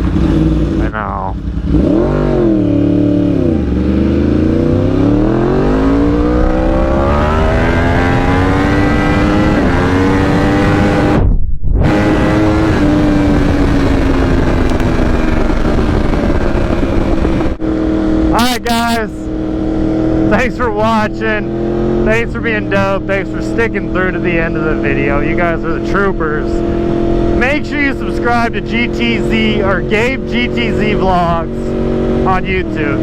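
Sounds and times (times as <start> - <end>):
engine accelerating hard: 0.0 - 11.2, 11.8 - 33.0.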